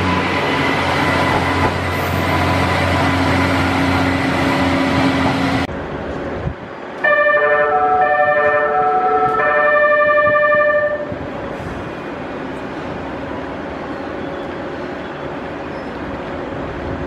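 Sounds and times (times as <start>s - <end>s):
diesel railcar engine hum: 0.0s - 17.0s.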